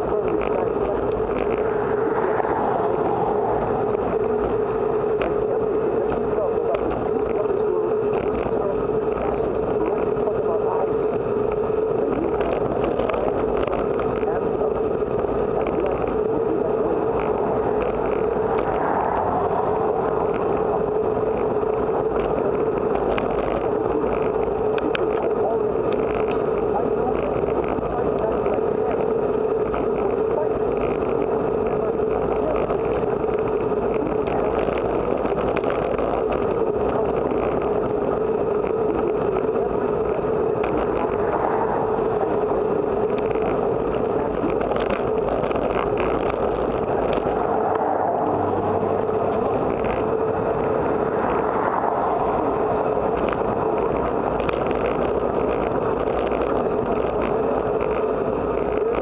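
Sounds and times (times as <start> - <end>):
bicycle tyres on asphalt: 0.0 - 59.0
constant drone: 0.0 - 59.0
wind rush: 0.0 - 59.0.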